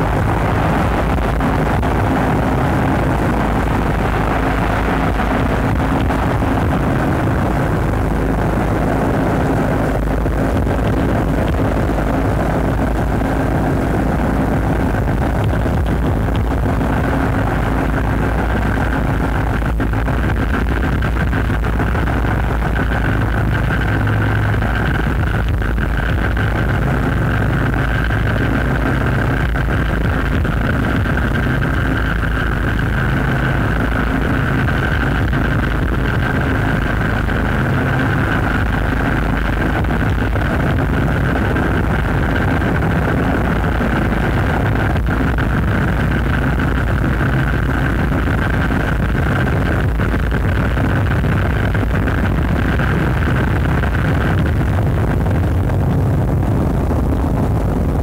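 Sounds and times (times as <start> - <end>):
rumbling engine-like noise drone: 0.0 - 58.0
steady hum-like tone: 0.0 - 58.0.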